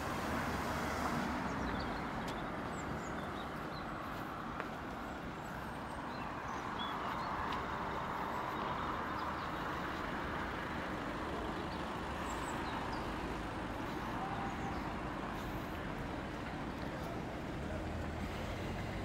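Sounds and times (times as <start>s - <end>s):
traffic noise: 0.0s - 19.0s
vehicle passing: 0.0s - 19.0s.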